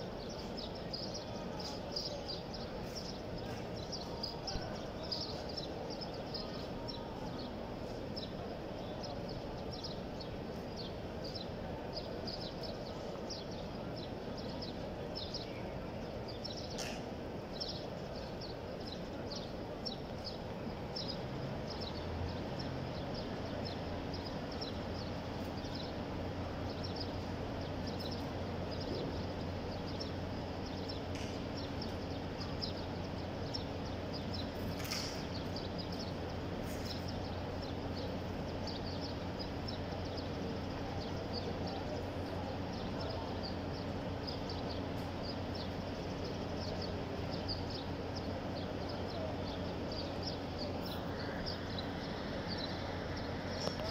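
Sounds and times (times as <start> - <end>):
crowd murmur: 0.0 - 53.9
low steady hum: 0.0 - 53.9
small birds chirping: 0.0 - 53.9.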